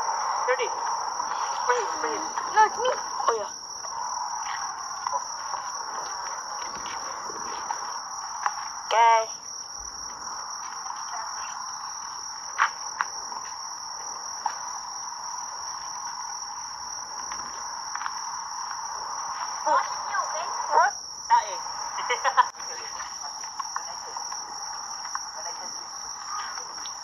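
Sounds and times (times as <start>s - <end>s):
insect chorus droning: 0.0s - 27.0s.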